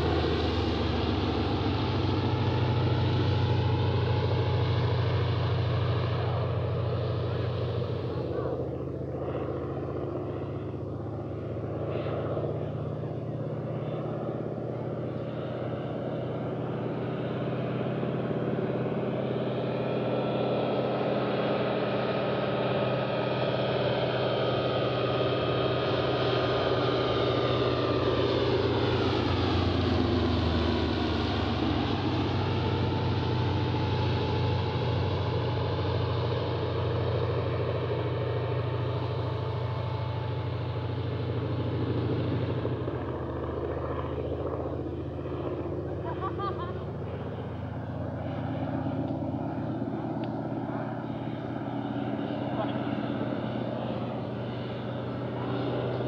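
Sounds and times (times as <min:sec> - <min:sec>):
propeller plane engine passing: 0:00.0 - 0:56.0.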